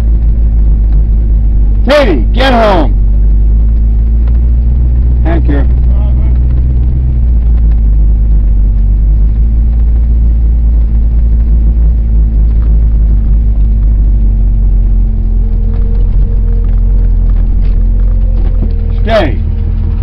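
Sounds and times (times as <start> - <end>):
higher steady note: 0.0 - 20.0
vehicle engine rumbling: 0.0 - 20.0.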